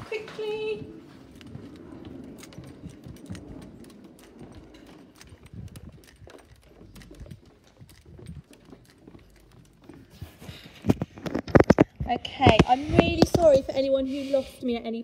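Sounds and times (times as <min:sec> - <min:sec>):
quick clicking footsteps: 0:00.0 - 0:13.9.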